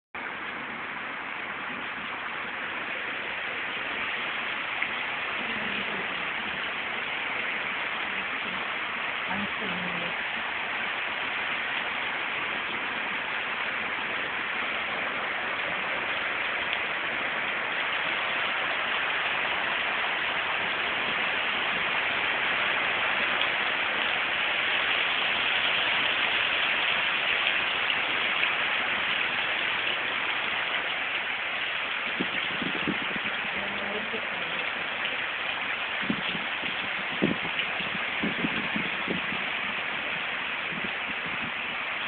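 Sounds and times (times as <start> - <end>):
heavy rain splashing into water: 0.2 - 42.0.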